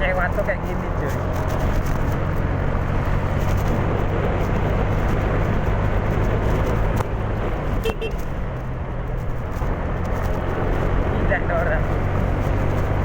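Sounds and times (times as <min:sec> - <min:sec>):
scooter engine hum: 0:00.0 - 0:13.0
wind and road noise: 0:00.0 - 0:13.0.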